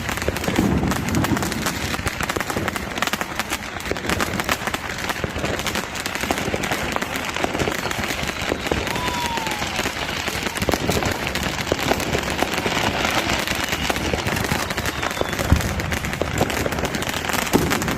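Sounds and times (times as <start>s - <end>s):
falling firework whistle: 0.0s - 17.9s
firecrackers crackling pops: 0.0s - 17.9s.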